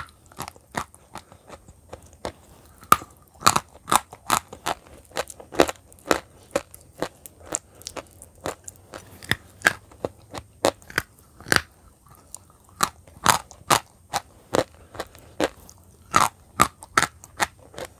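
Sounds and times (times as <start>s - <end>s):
chalk being chewed: 0.0s - 17.9s.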